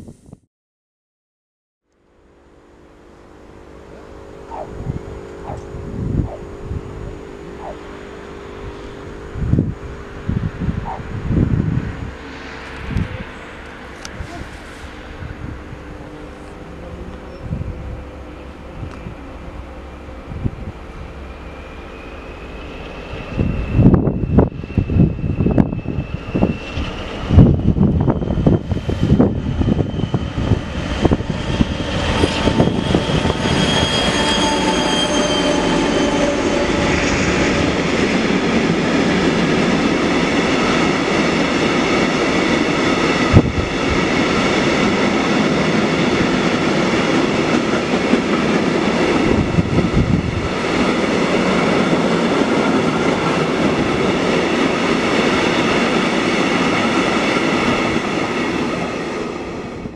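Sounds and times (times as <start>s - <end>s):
diesel locomotive passing: 2.1s - 59.9s.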